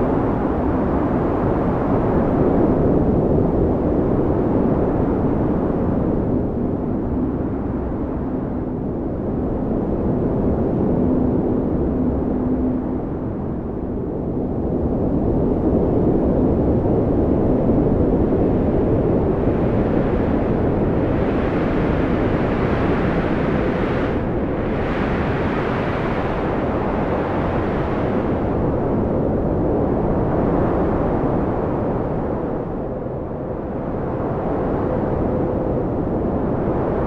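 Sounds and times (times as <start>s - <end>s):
strong wind blowing: 0.0s - 37.0s.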